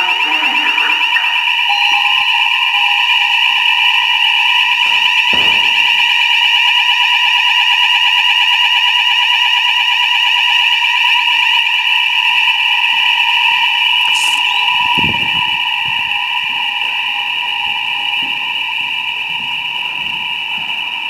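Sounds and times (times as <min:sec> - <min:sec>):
fire alarm tone: 0:00.0 - 0:21.0.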